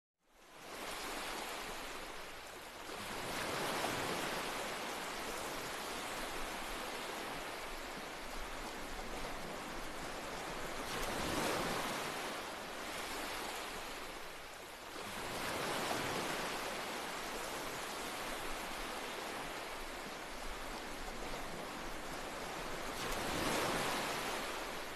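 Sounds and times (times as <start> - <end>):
ocean waves breaking: 0.6 - 24.9.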